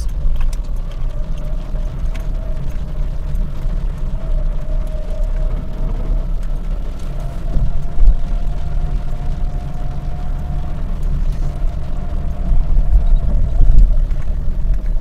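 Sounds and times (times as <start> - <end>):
engine and tyre rumble: 0.0 - 15.0
rain and wipers on windshield: 0.0 - 15.0.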